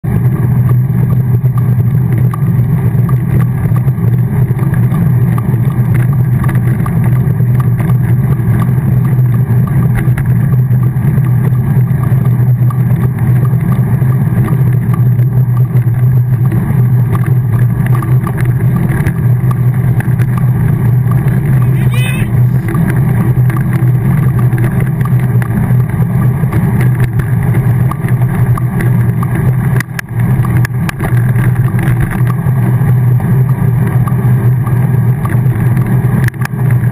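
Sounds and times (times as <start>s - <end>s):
vehicle engine cruising: 0.0s - 36.9s
wind and road noise: 0.0s - 36.9s.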